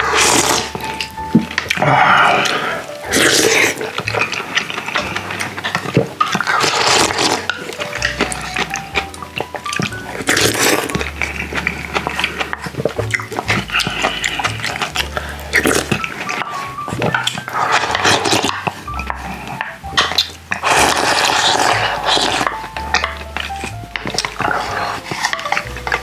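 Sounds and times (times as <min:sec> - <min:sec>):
background music: 0:00.0 - 0:26.0
wet slurping and chewing: 0:00.0 - 0:26.0.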